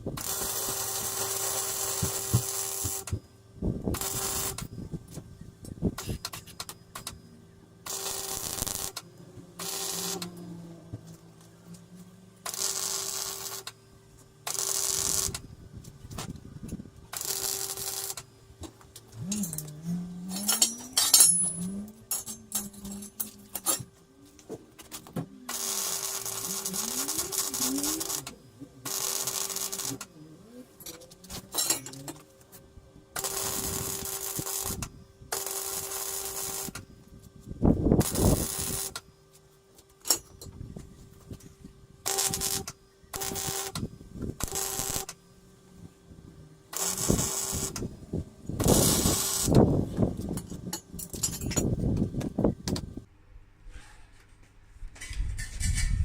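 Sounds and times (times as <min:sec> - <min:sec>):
arc welding crackling: 0:00.0 - 0:53.1.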